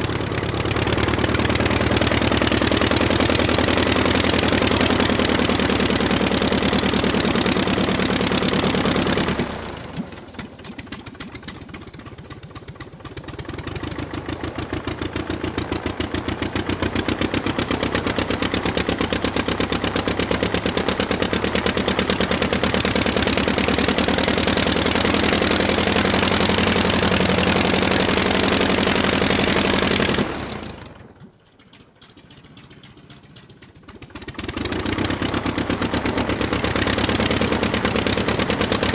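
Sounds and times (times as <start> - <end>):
propeller aircraft engine running: 0.0 - 38.9.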